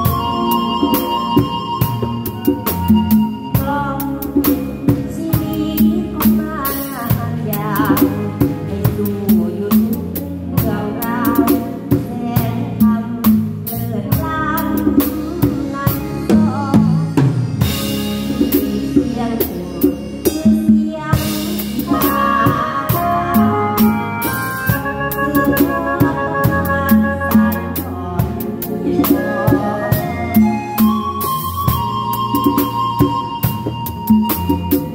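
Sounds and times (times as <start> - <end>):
acoustic drum kit beat: 0.0 - 34.9
bass guitar: 0.0 - 34.9
keyboard playing: 0.0 - 34.9.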